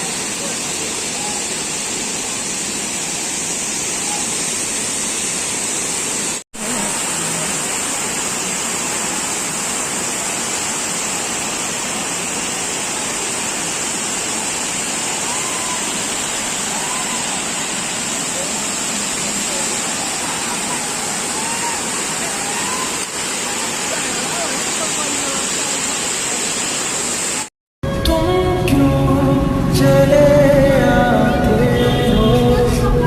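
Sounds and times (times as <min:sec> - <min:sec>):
waterfall roaring: 0:00.0 - 0:27.5.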